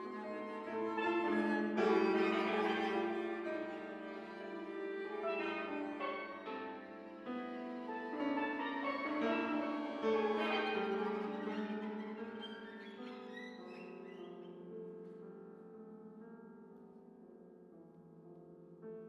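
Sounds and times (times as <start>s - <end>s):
strings and piano chamber music: 0.0s - 19.0s.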